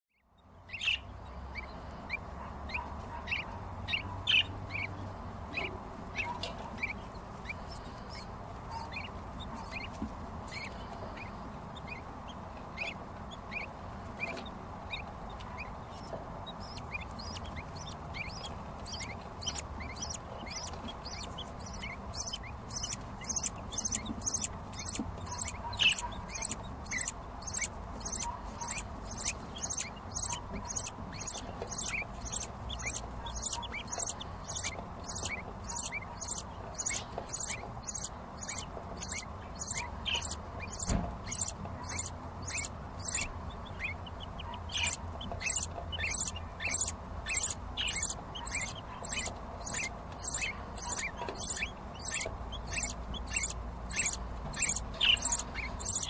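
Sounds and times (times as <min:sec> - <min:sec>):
bird chick chirping: 0:00.2 - 0:56.0.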